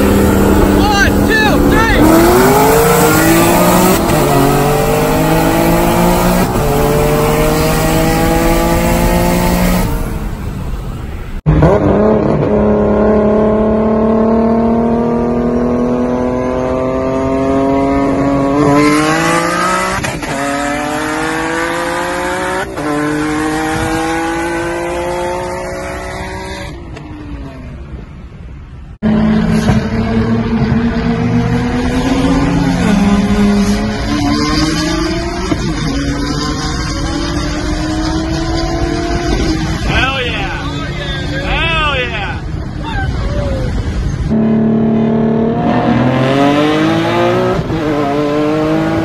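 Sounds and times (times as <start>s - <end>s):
sports car engines accelerating: 0.0s - 49.0s.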